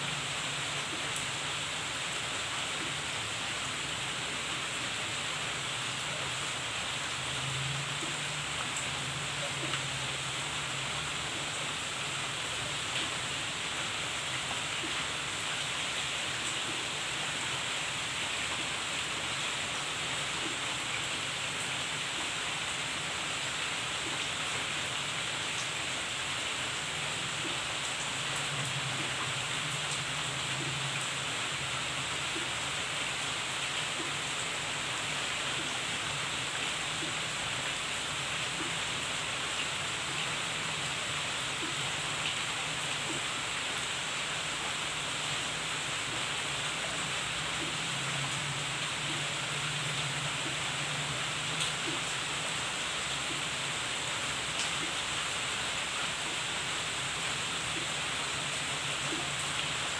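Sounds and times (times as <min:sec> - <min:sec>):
rain on plants and stone: 0:00.0 - 0:59.9.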